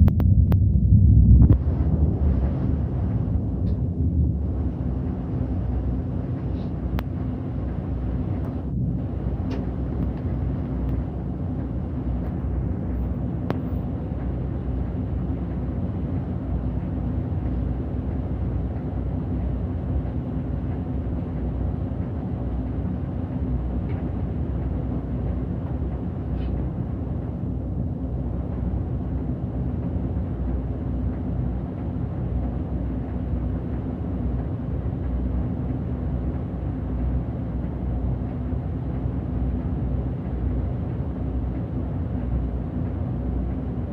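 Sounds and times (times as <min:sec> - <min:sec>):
bus engine and tyres rumbling: 0:00.0 - 0:43.9.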